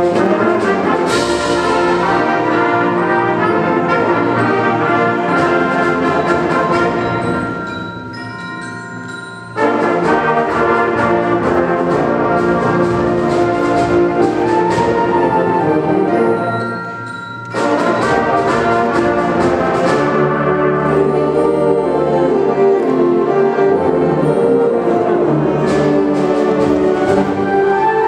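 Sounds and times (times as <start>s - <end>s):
brass: 0.0s - 7.8s, 9.6s - 16.9s, 17.5s - 28.0s
concert band playing: 0.0s - 28.0s.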